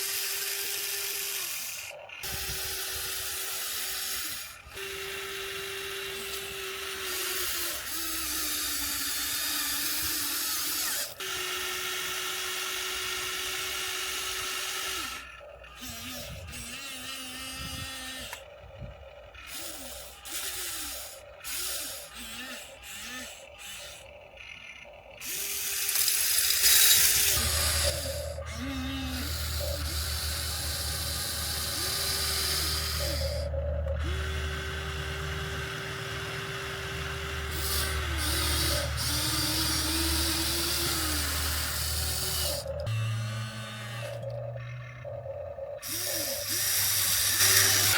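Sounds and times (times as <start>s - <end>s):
toy excavator motors whining: 0.0s - 47.9s.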